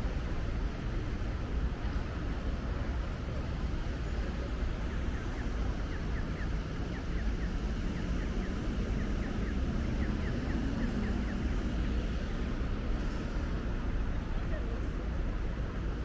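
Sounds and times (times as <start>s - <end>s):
city traffic rumble: 0.0s - 16.0s
passing engine hum: 0.0s - 16.0s
pedestrian crossing chirps: 0.0s - 16.0s.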